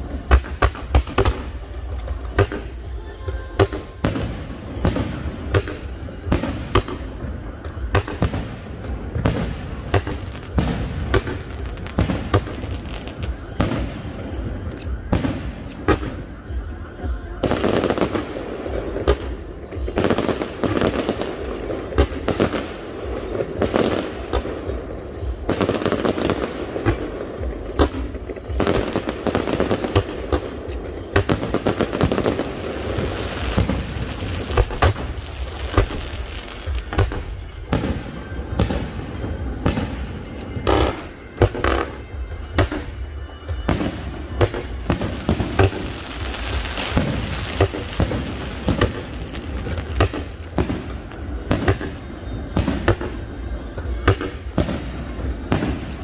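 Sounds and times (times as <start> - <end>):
fireworks bursting with sharp bangs: 0.0 - 56.0
fireworks crackling: 0.0 - 56.0.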